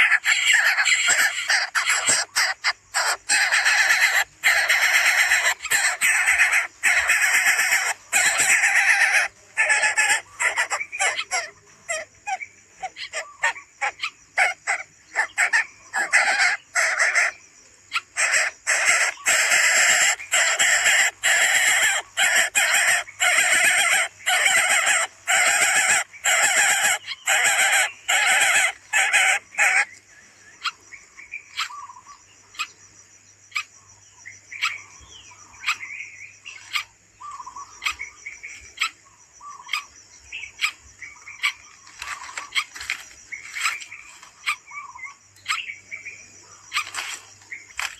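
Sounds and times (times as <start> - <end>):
nestlings harsh hissing calls: 0.0 - 30.0, 36.5 - 47.9.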